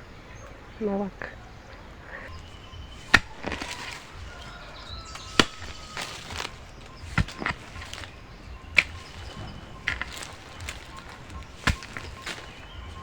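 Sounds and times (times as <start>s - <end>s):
digging tool striking soil: 2.3s - 13.0s.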